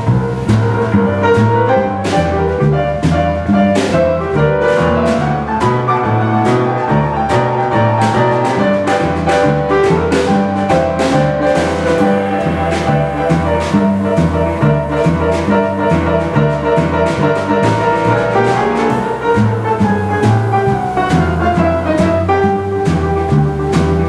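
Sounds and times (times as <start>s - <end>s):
boogie-woogie piano playing: 0.0s - 24.0s.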